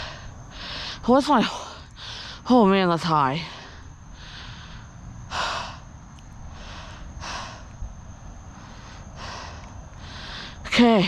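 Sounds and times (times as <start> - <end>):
cyclist breathing hard: 0.0 - 2.5, 3.4 - 10.7.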